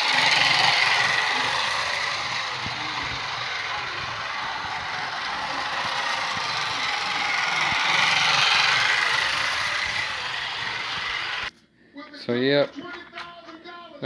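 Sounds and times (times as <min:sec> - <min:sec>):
toy train motor whirring: 0:00.0 - 0:11.5.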